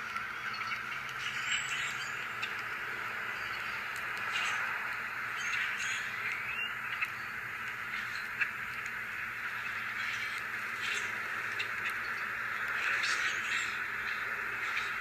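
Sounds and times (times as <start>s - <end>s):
flock of birds chattering: 0.0s - 15.0s.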